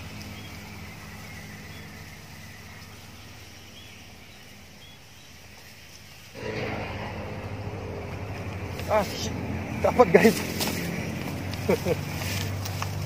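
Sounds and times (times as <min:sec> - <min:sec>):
distant engine hum: 0:00.0 - 0:13.0.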